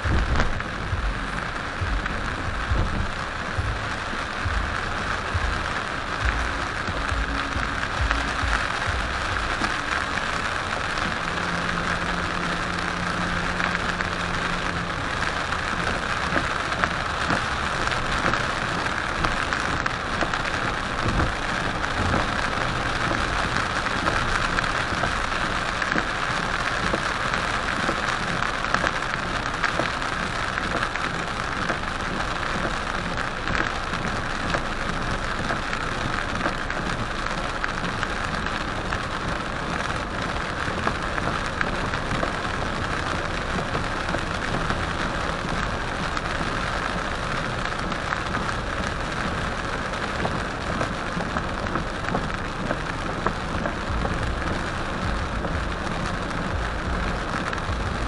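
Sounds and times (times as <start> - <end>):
heavy rain on a car: 0.0 - 58.0.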